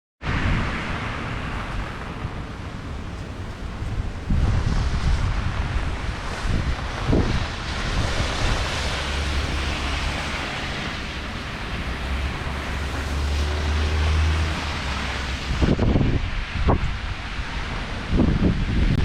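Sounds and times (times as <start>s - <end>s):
strong gusty wind on microphone: 0.2s - 19.0s.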